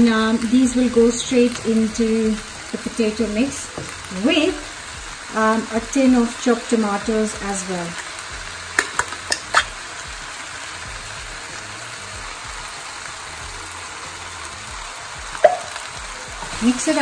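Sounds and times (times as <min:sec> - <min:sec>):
vegetables sizzling in a pan: 0:00.0 - 0:17.0.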